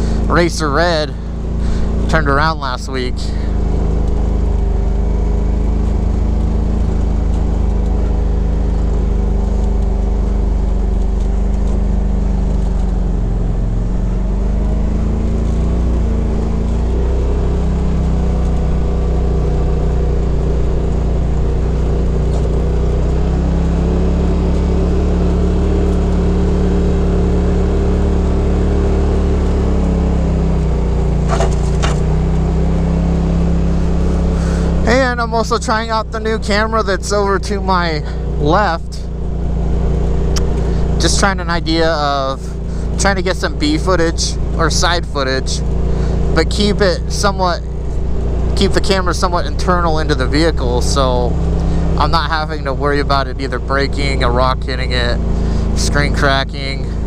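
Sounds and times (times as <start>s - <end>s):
vehicle engine running low speed: 0.0s - 57.0s.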